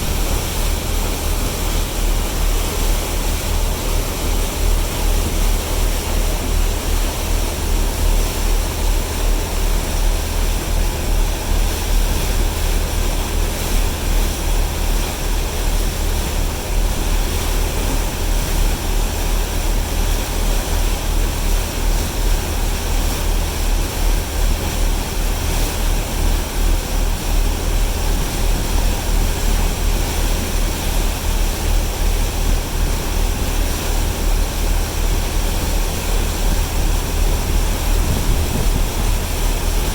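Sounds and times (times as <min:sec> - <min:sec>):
rush of wind and water: 0:00.0 - 0:39.9.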